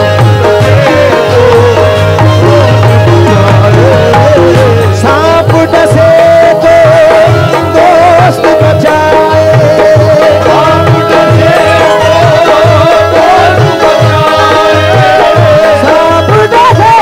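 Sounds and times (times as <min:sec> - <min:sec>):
keyboard and harmonium melody: 0:00.0 - 0:17.0.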